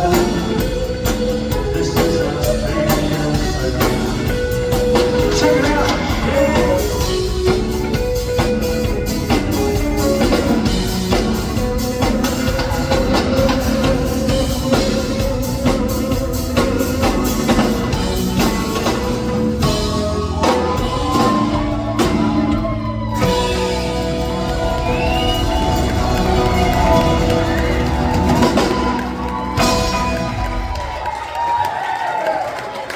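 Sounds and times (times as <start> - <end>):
guitar and bass notes: 0.0 - 31.1
drum kit beat: 0.0 - 31.2.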